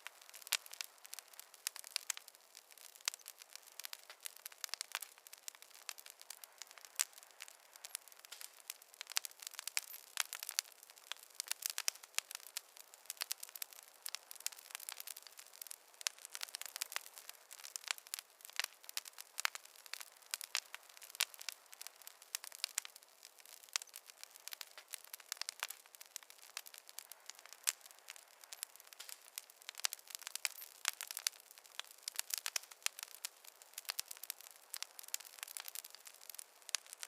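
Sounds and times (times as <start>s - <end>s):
faint hiss: 0.0s - 37.0s
wood fire crackling: 0.0s - 37.0s.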